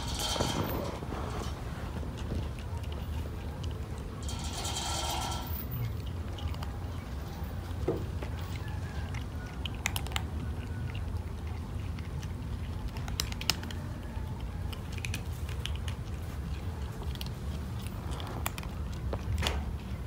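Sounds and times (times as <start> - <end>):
cat crunching dry kibble: 0.0 - 20.0.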